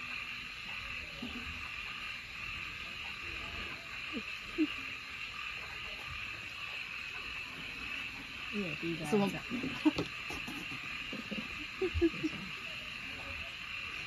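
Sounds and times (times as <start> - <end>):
chorus of night insects: 0.0 - 14.0.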